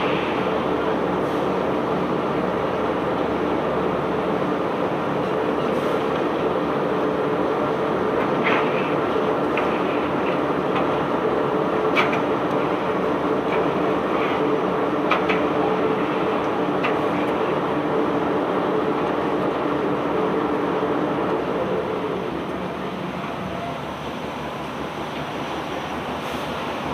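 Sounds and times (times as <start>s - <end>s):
machinery rumbling hum: 0.0s - 26.9s.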